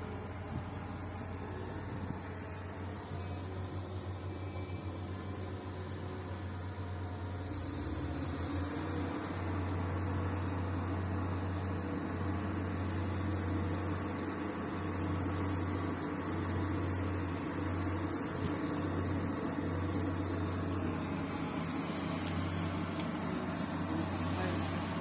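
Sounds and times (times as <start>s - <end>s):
bulldozer diesel engine droning: 0.0s - 25.0s.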